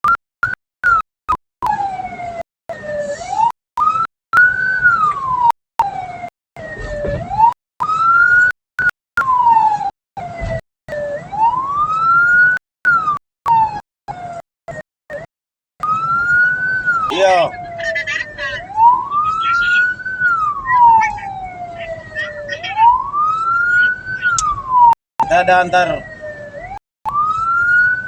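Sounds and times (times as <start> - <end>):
wailing siren: 1.6 - 28.0.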